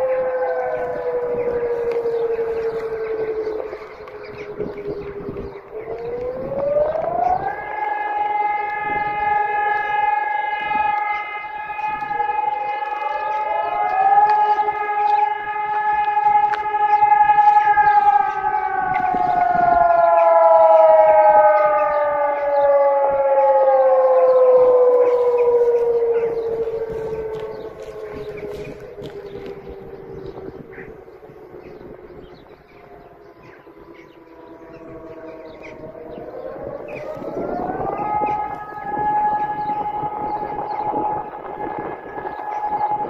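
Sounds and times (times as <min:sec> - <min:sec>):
civil defense sirens winding: 0:00.0 - 0:43.0.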